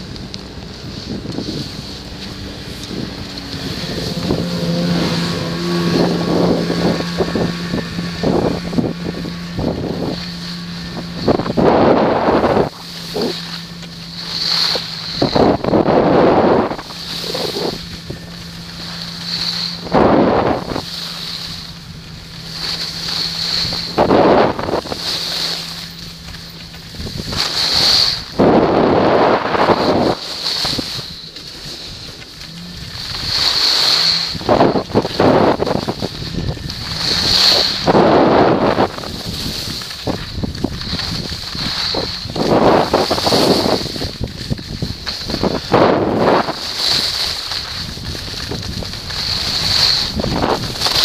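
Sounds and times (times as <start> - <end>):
skis scraping on snow: 0.0 - 51.0
wind rushing over microphone: 0.0 - 51.0.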